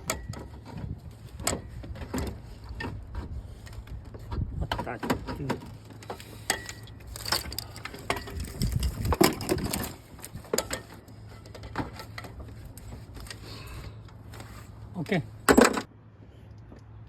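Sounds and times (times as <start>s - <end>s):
tools clanking on car engine: 0.0s - 15.9s.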